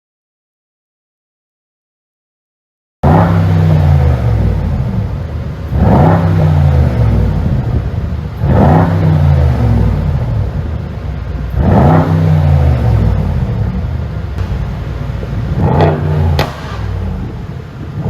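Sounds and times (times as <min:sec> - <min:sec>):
car engine revving: 0:03.0 - 0:18.0.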